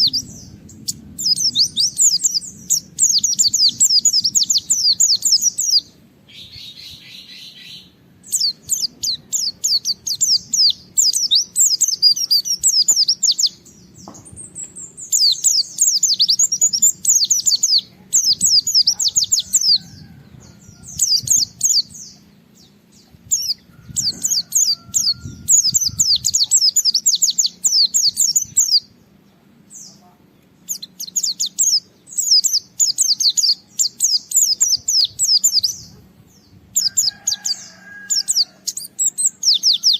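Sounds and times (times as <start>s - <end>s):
bird chattering and trilling: 0.0s - 29.0s, 30.6s - 39.9s.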